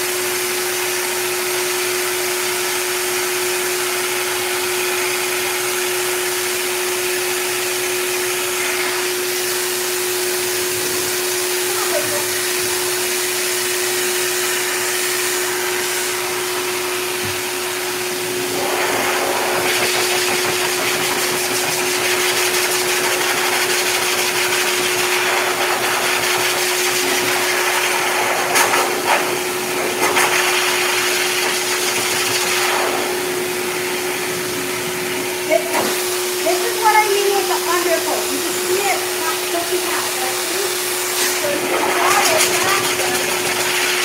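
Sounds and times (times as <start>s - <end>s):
dog dryer air rush: 0.0s - 44.0s.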